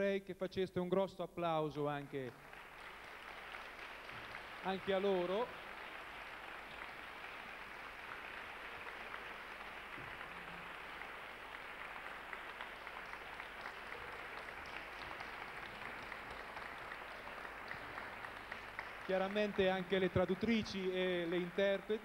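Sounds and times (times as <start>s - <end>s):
audience applauding: 2.2s - 22.0s.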